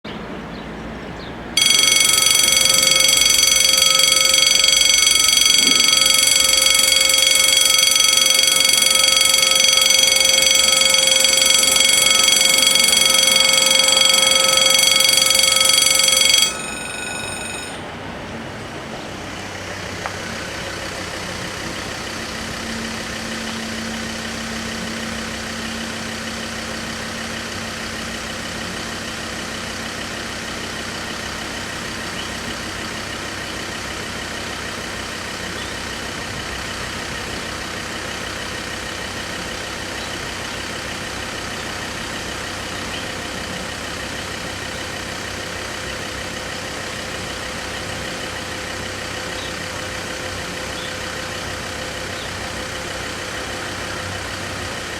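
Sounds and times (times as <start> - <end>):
level crossing warning bells: 1.6 - 54.9.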